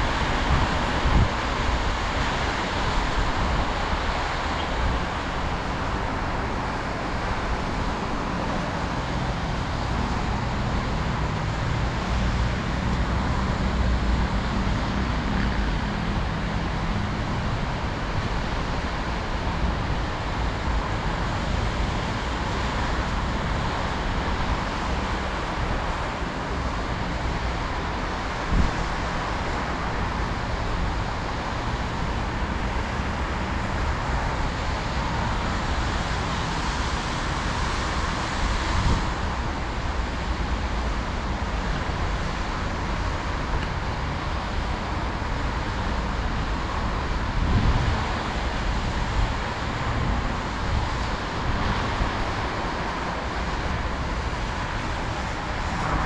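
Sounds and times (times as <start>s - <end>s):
road traffic noise: 0.0s - 56.0s
wind rumble on microphone: 0.0s - 56.0s.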